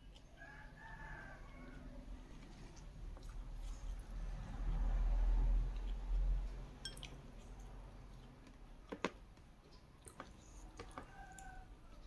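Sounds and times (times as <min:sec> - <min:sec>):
person chewing fried chicken: 0:00.0 - 0:11.6.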